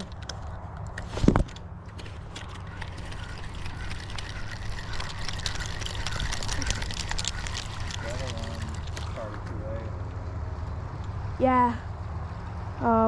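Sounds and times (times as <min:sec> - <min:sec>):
boat motor rumbling: 0:01.7 - 0:13.0.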